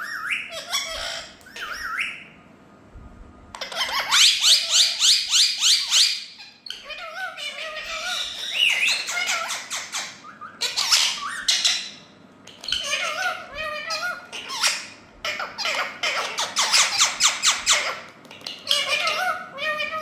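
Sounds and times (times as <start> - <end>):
parakeets chattering and squawking: 0.0 - 2.3, 3.5 - 20.0
parakeets shrill calling: 0.0 - 2.4, 3.5 - 20.0.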